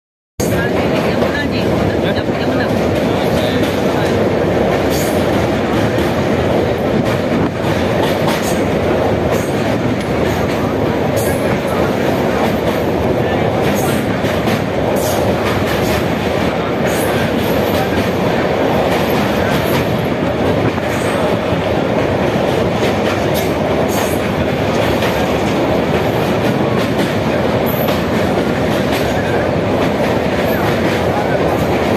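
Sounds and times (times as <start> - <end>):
train wheels rumbling on bridge: 0.4 - 31.9.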